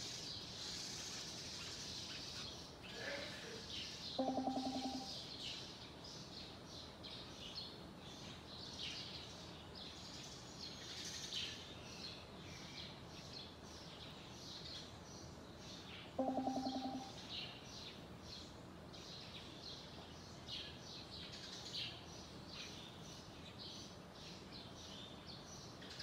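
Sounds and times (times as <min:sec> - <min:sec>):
outdoor background noise: 0:00.0 - 0:26.0
small birds chirping: 0:00.0 - 0:26.0.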